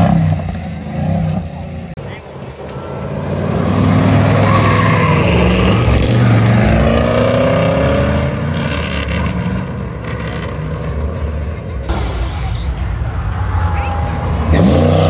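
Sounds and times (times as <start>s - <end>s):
car engines revving past: 0.0s - 15.0s.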